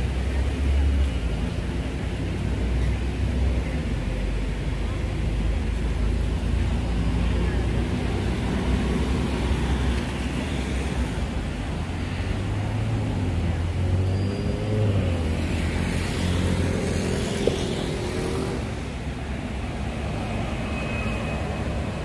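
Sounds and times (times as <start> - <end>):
traffic engines humming: 0.0 - 22.0.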